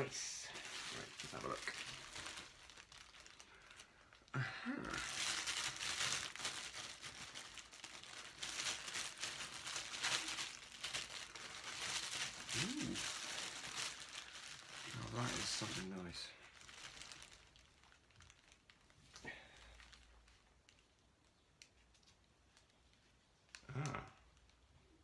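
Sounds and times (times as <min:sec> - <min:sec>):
packaging crinkling and rustling: 0:00.0 - 0:04.3, 0:04.9 - 0:24.6.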